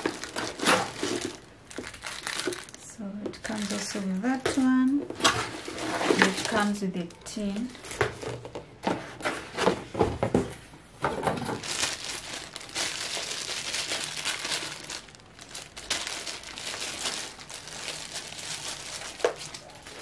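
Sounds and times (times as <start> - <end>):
plastic packaging crinkling: 0.0 - 8.6, 11.2 - 20.0.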